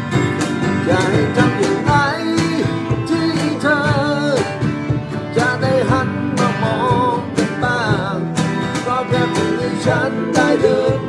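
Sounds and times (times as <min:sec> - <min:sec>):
acoustic guitar: 0:00.0 - 0:11.0
man singing a ballad: 0:00.7 - 0:04.6, 0:05.2 - 0:11.0.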